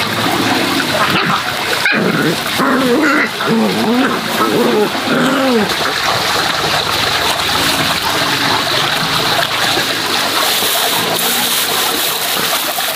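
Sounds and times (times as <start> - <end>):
flowing water rushing: 0.0 - 12.9.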